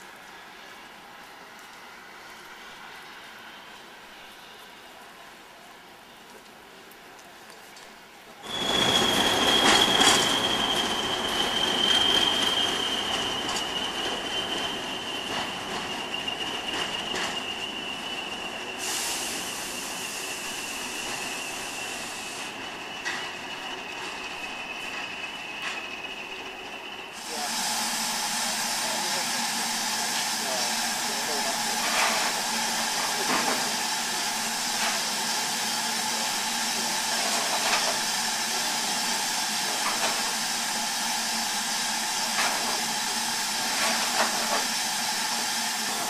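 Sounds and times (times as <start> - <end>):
rumble of rolling train: 0.0 - 46.0
train wheels squealing on rails: 0.3 - 5.2, 8.4 - 46.0.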